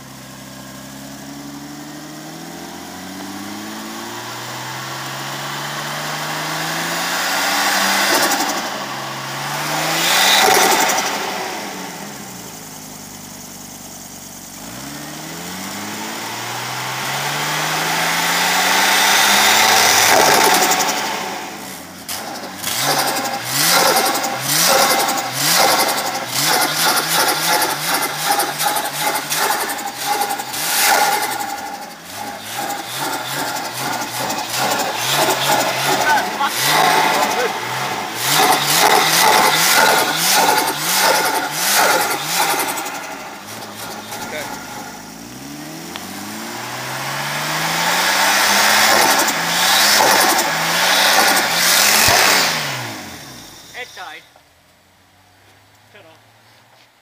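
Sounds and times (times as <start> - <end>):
car engine revving: 0.0 - 54.3.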